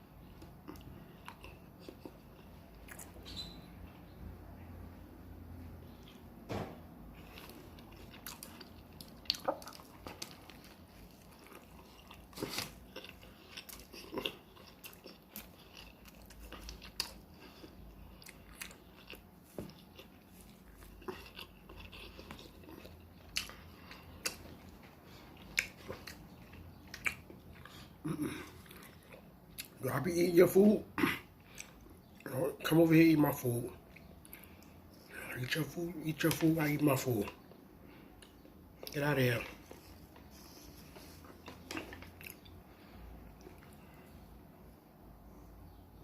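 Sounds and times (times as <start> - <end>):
person chewing a sandwich: 0.0 - 4.1, 4.7 - 29.9, 31.0 - 32.3, 33.8 - 35.2, 36.2 - 45.8.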